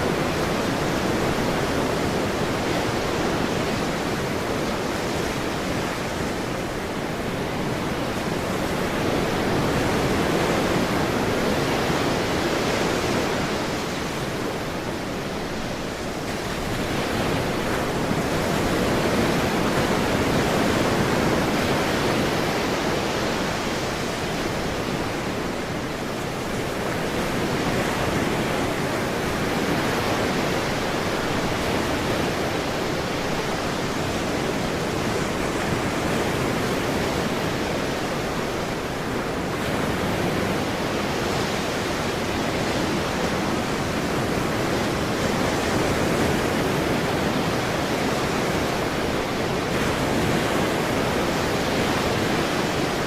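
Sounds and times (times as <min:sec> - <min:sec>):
ocean waves washing ashore: 0:00.0 - 0:53.0.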